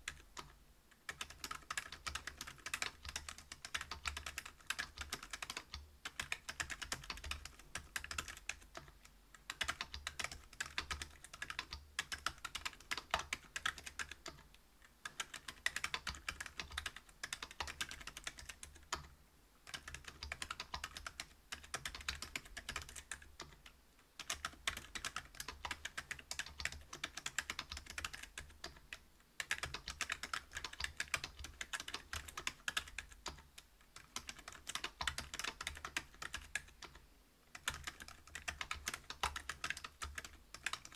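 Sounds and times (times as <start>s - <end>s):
fast keyboard typing: 0.0s - 0.5s, 1.1s - 19.1s, 19.7s - 40.9s.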